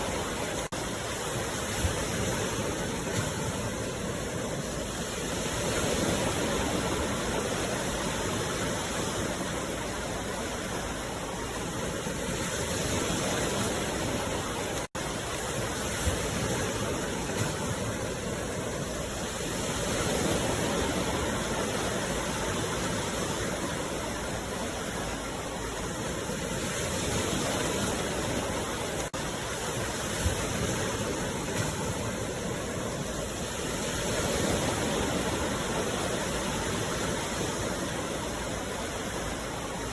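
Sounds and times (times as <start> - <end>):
sea waves surf hiss: 0.0 - 39.9.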